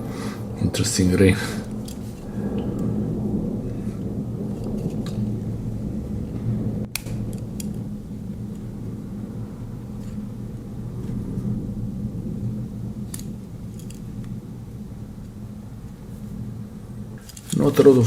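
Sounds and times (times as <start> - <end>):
rainstorm rumble: 0.0 - 18.0.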